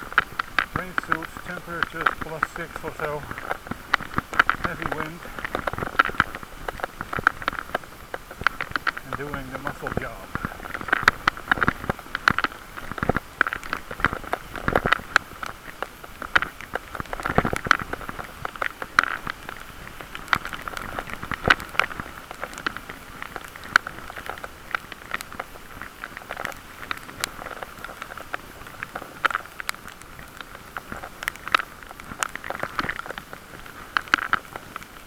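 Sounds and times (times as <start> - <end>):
crackling and sharp clicks: 0.0 - 35.0.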